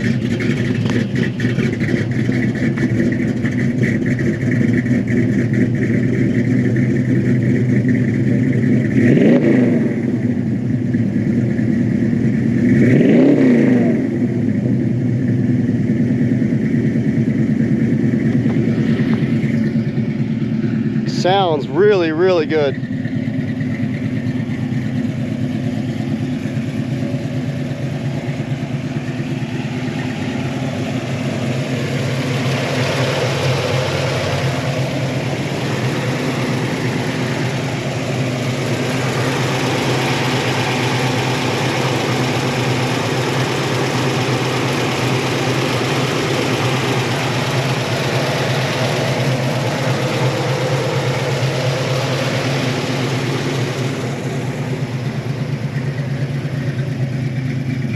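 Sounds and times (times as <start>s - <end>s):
car engine idling: 0.0s - 57.9s.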